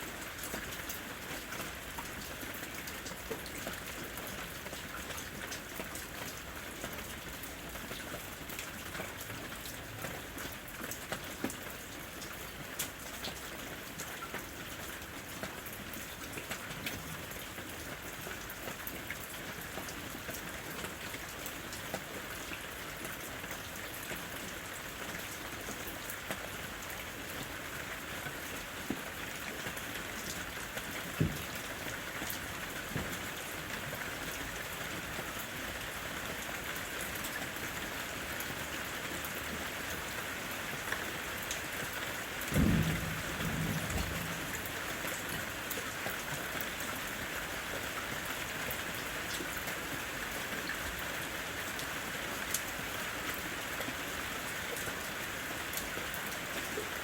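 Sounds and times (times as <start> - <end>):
rain falling: 0.0 - 57.0
raindrops ticking close by: 0.0 - 57.0.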